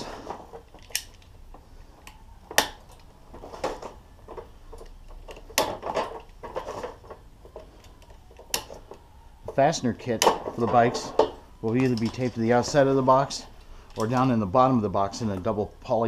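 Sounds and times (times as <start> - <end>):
bike parts knocking and clinking: 0.0 - 15.6
parts rattling and rustling: 0.0 - 16.0.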